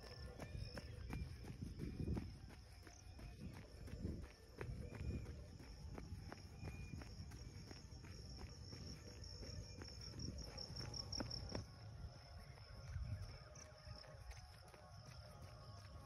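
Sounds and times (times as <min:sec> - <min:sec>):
crickets trilling: 0:00.0 - 0:16.0
running footsteps: 0:00.0 - 0:16.0.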